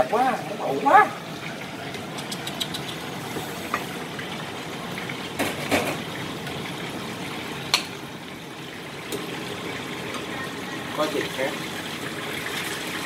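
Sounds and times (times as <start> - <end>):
liquid pouring: 1.2 - 13.0.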